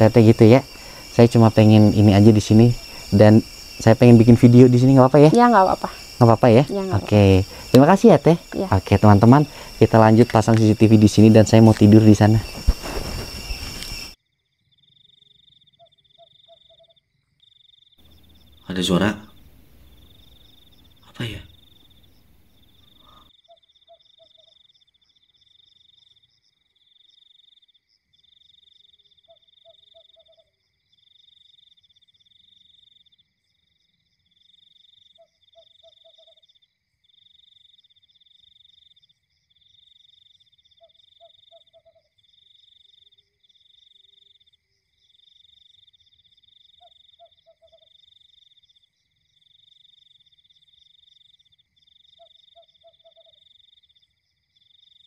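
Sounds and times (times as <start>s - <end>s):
frog croaking: 0.0s - 55.0s
insects trilling: 0.0s - 55.0s.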